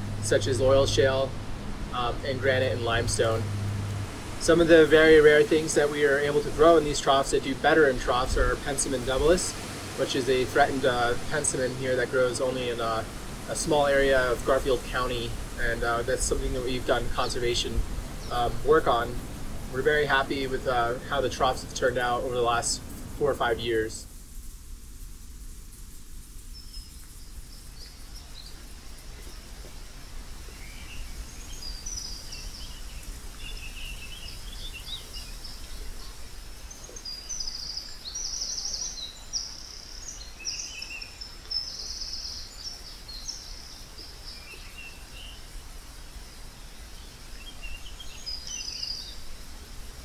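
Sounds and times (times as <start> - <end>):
small birds chirping: 0.0 - 24.1, 25.7 - 50.0
low outdoor rumble: 0.0 - 50.0.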